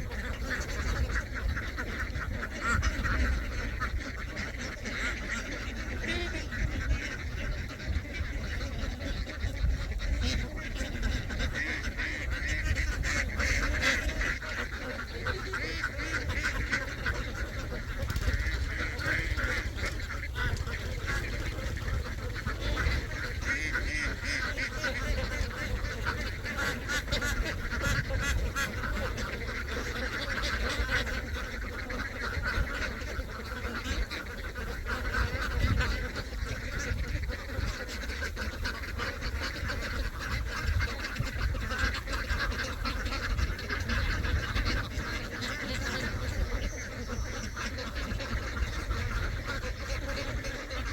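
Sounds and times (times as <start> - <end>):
flock of ducks quacking: 0.0 - 50.9.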